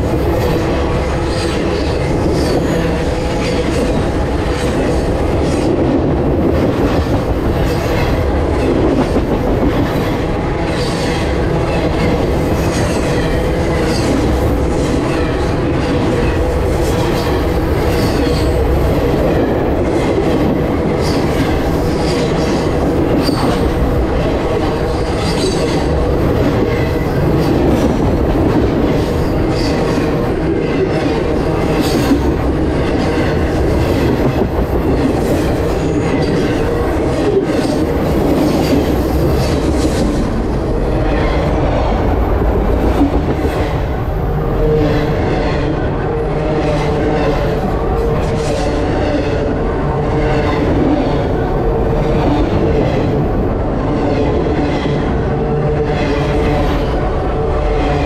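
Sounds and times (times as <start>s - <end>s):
train wheels rumbling and rattling: 0.0s - 58.0s.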